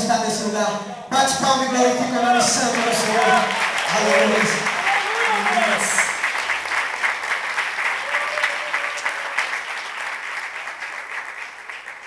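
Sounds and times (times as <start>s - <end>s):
crowd applauding: 2.1s - 12.0s.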